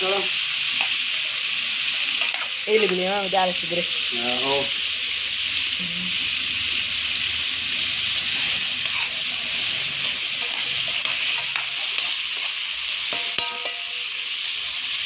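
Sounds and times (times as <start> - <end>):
birds sizzling in a pan: 0.0 - 15.0.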